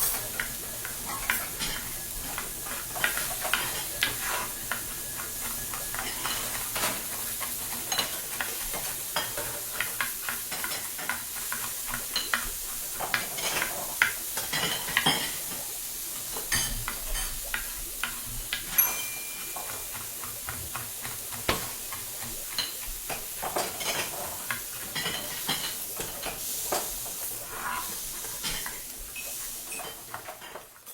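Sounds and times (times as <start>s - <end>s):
food sizzling in a pan: 0.0s - 30.9s
utensils clinking against cookware: 0.0s - 30.9s.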